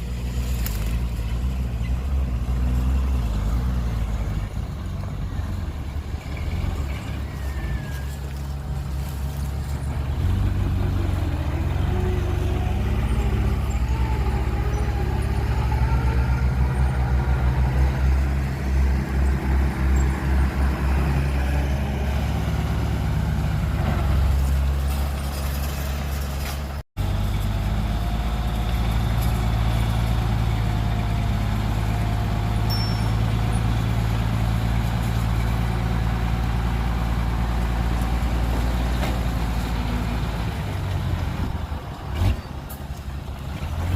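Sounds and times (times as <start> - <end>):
heavy machinery diesel engines: 0.0 - 43.9.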